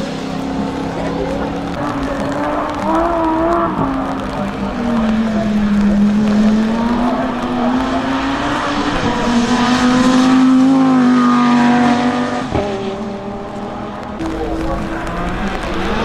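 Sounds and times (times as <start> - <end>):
car engine running loud: 0.0 - 16.0.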